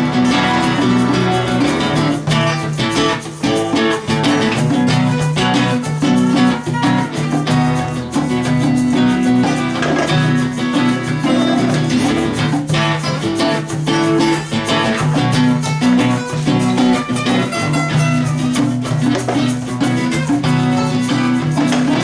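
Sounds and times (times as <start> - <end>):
live band playing: 0.0 - 22.0
plucked strummed guitar: 0.0 - 22.0.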